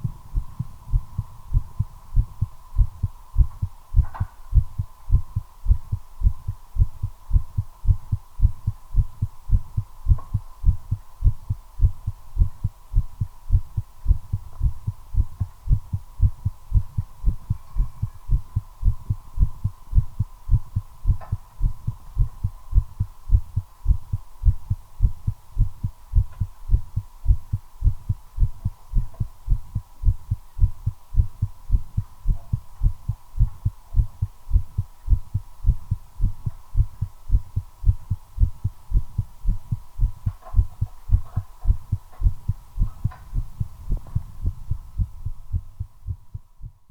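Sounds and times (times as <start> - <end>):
faint steady tone: 0.0 - 46.9
fast heartbeat: 0.0 - 46.9.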